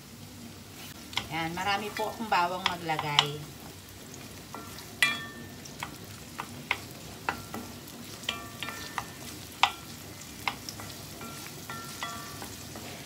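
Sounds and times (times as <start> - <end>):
garlic and onion sizzling in oil: 0.0 - 13.0
wooden spatula knocking on pan: 1.1 - 3.5, 4.5 - 12.8.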